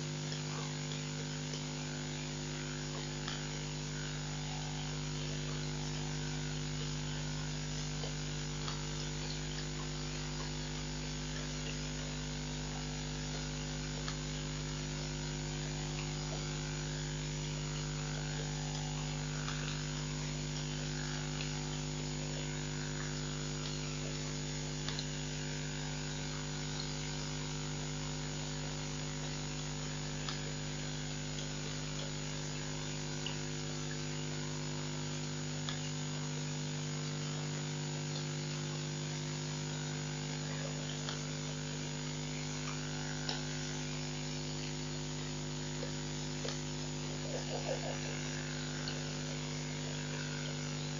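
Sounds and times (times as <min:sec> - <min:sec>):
electrical mains hum: 0:00.0 - 0:50.9.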